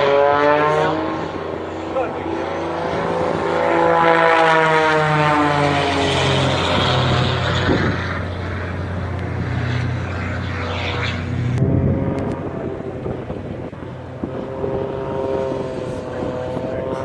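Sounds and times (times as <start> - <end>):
propeller airplane passing by: 0.0 - 17.0.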